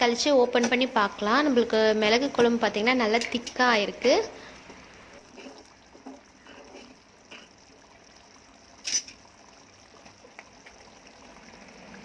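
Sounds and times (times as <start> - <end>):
curry bubbling in a pan: 0.0 - 12.0.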